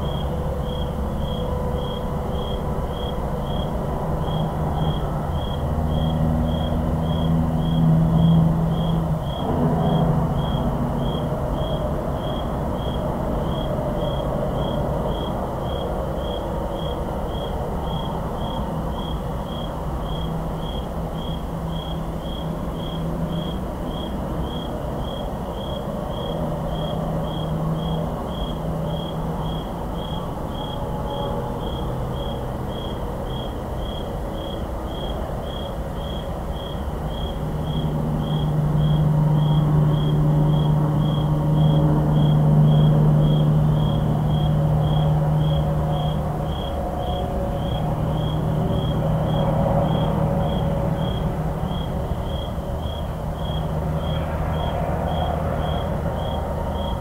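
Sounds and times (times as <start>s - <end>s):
cricket chirping: 0.0s - 57.0s
low hum of highway traffic: 0.0s - 57.0s.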